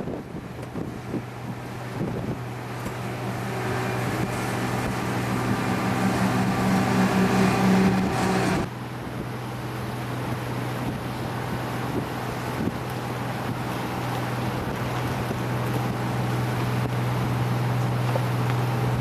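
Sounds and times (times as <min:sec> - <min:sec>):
boat engine running: 0:00.0 - 0:19.0
louder engine drone: 0:00.6 - 0:19.0.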